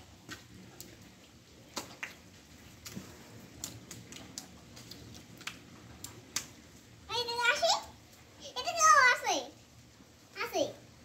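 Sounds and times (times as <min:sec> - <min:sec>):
water drips and small splashes: 0:00.0 - 0:11.0.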